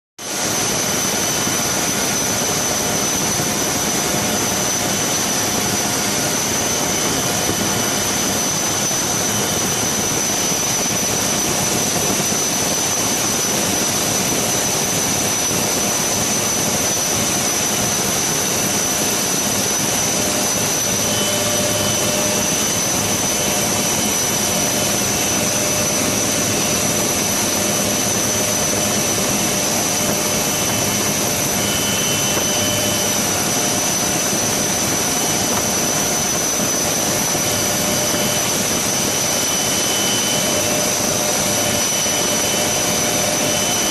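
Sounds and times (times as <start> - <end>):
helicopter rotor rushing noise: 0.2 - 43.9
high turbine whine: 0.2 - 43.9.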